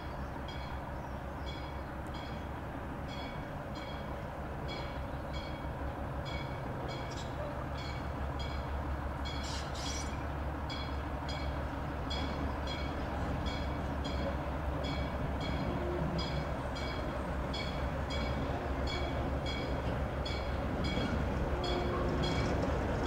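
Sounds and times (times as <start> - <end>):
diesel locomotive idling: 0.0 - 23.0.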